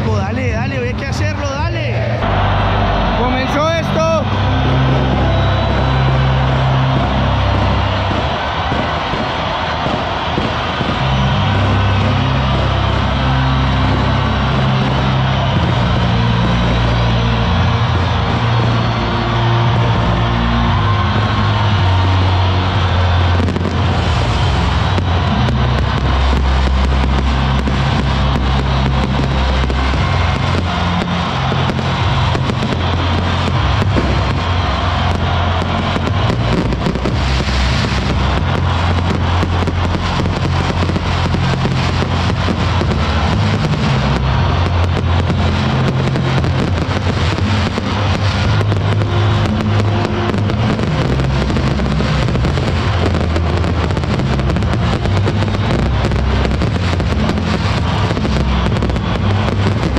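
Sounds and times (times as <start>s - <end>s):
fireworks crackling and popping: 0.0s - 59.9s
loud music: 0.0s - 59.9s.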